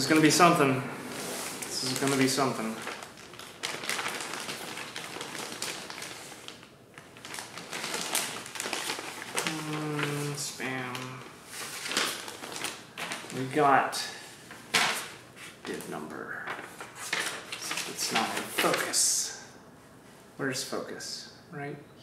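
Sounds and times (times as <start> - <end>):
wrapper crinkling: 0.0 - 19.0.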